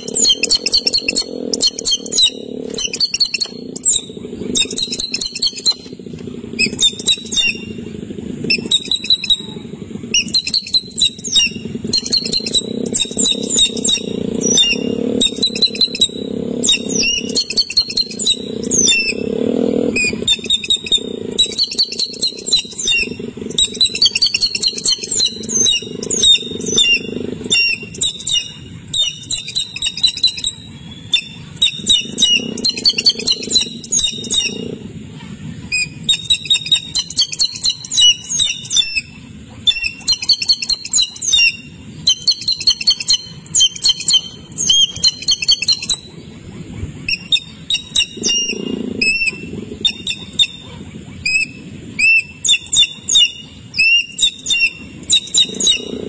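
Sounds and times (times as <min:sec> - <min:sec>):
low hum: 0:00.0 - 0:56.0
small birds chirping: 0:00.0 - 0:56.0.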